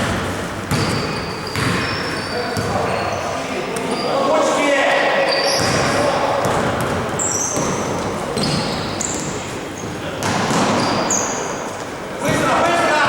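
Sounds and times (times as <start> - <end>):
sneakers squeaking on court: 0.0 - 4.3, 5.1 - 12.5.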